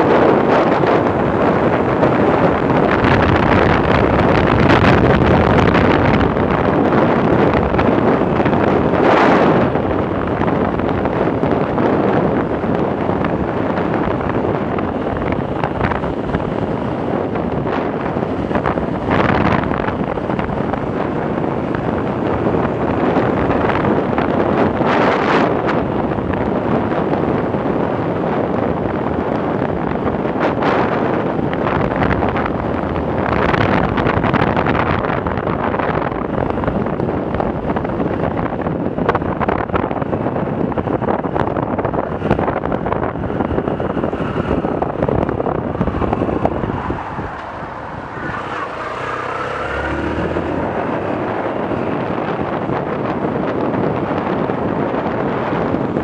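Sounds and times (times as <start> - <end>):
motorcycle engine running: 0.0 - 56.0
wind blasting across microphone: 0.0 - 56.0.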